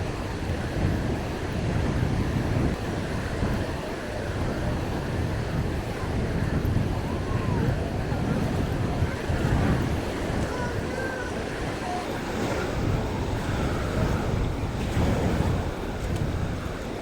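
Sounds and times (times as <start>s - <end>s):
waves washing onto beach: 0.0s - 17.0s
wind buffeting microphone: 0.0s - 17.0s.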